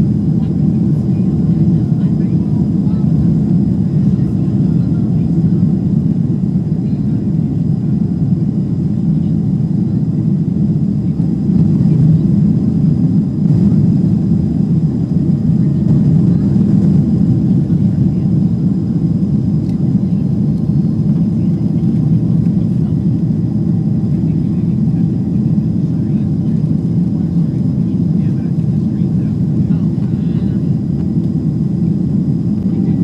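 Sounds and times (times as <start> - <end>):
aircraft engines rumbling: 0.0 - 33.0.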